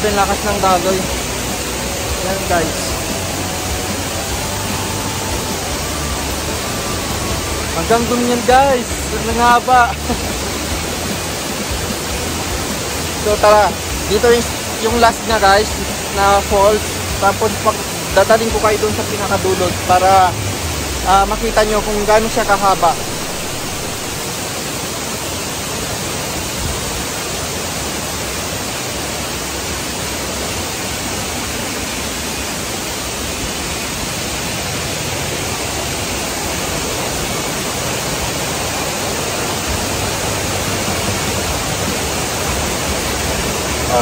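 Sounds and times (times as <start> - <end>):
waterfall and rushing river: 0.0 - 44.0.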